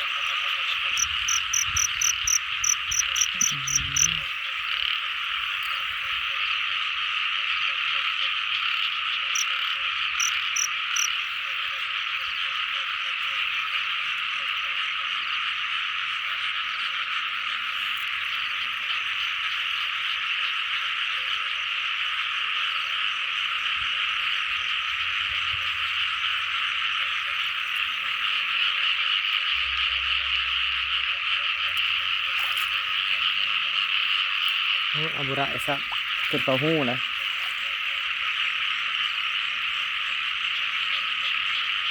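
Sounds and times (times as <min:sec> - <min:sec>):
chorus of frogs calling: 0:00.0 - 0:41.9.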